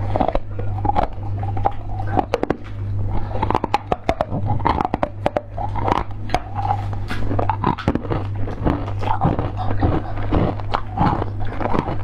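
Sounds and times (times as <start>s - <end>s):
chewing and lip smacks: 0.0s - 12.0s
steady low hum: 0.0s - 12.0s.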